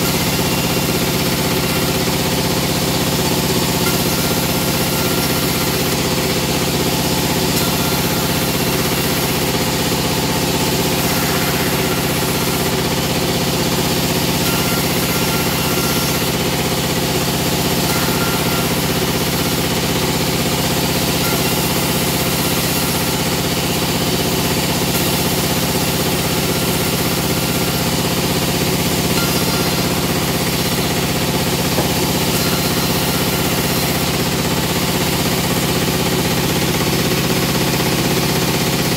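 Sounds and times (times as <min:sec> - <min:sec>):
machine drone: 0:00.0 - 0:38.9.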